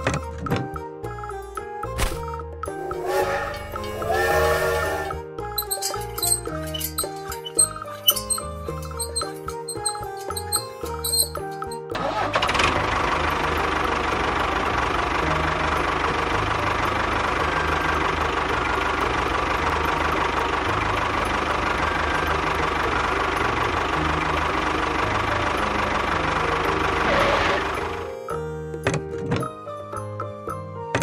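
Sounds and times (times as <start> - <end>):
tractor engine chugging: 3.0 - 30.4.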